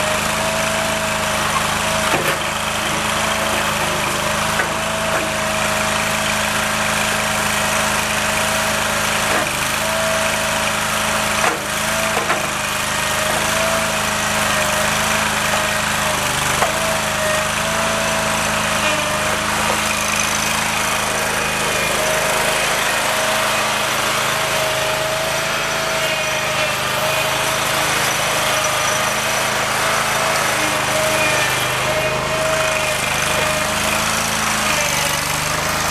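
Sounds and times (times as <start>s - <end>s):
skid steer engine running: 0.0s - 35.9s.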